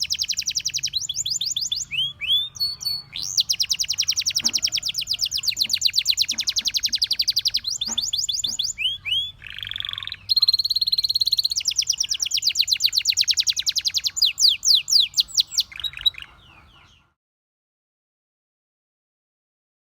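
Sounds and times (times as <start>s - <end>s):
canary singing trills: 0.0s - 17.2s.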